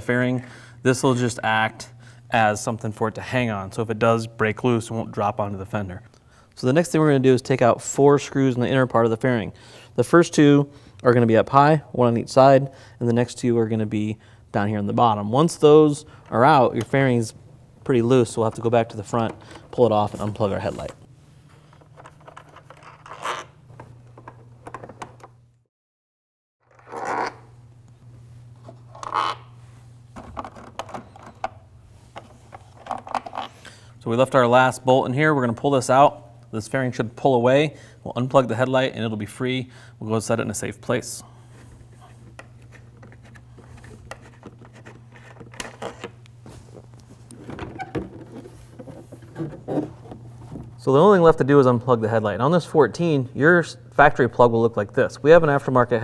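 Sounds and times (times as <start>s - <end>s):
steady low hum: 0.0s - 25.7s, 26.8s - 56.0s.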